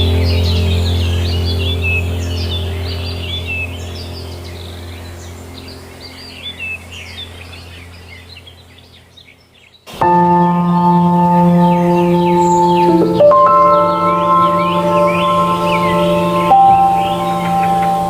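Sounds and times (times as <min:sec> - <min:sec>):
bell-like relaxation music: 0:00.0 - 0:07.7, 0:10.0 - 0:18.0
low musical drone: 0:00.0 - 0:08.7, 0:10.0 - 0:18.0
small birds chirping: 0:00.0 - 0:18.0.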